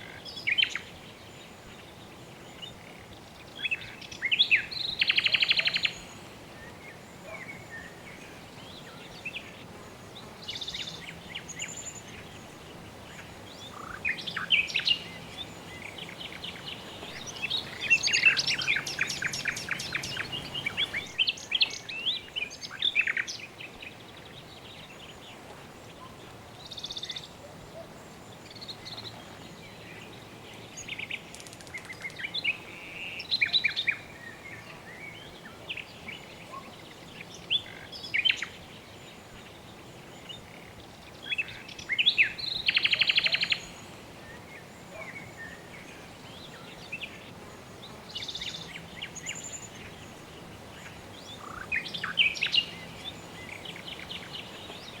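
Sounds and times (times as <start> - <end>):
birds chirping: 0.0 - 55.0
soft background hiss: 0.0 - 55.0.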